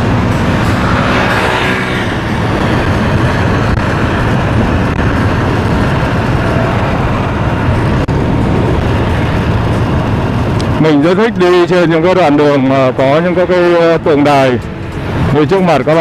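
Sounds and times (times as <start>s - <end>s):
city traffic: 0.0s - 16.0s
motorbike engine and tyre rumble: 0.0s - 16.0s.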